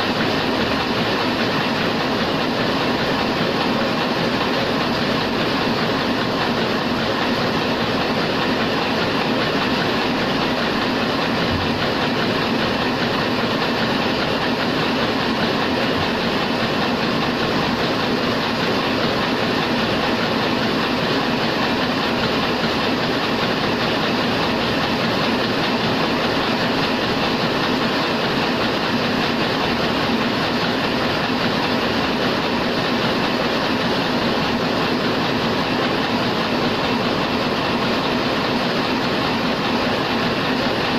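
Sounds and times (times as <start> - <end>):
printing press mechanical clatter: 0.0 - 40.9.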